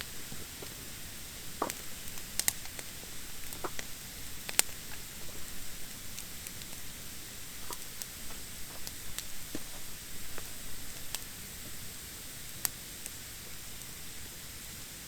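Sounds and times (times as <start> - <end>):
fire crackling and popping: 0.0 - 14.4
wood fire hissing: 0.0 - 15.0.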